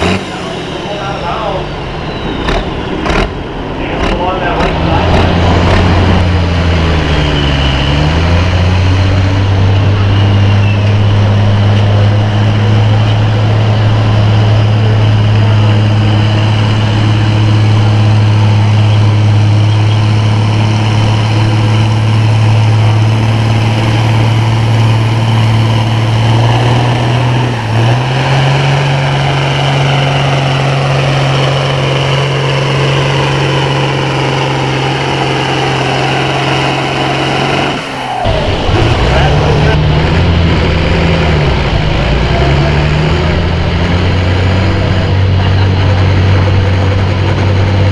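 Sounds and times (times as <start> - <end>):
tractor engine running hard: 0.0 - 47.9.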